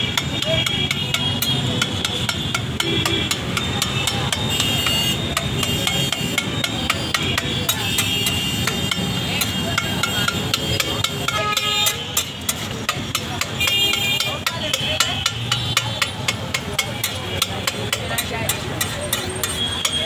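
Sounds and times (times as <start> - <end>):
metal spatula clacking on griddle: 0.0 - 20.0.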